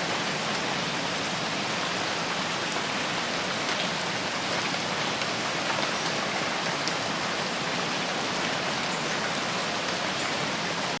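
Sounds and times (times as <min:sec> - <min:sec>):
rain falling on forest: 0:00.0 - 0:11.0.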